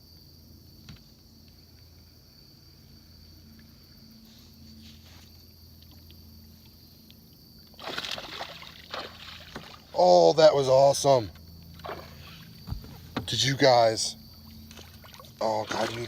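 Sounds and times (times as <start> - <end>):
high-pitched insect drone: 2.0 - 16.0.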